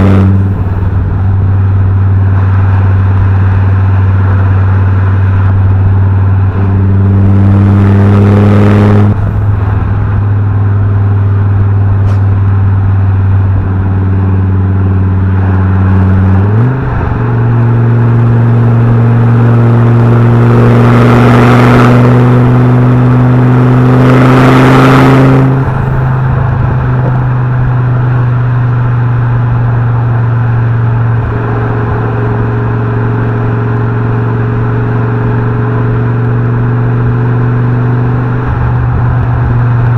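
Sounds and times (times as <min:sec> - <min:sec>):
car engine running: 0:00.0 - 0:39.9
rushing noise: 0:00.0 - 0:39.9.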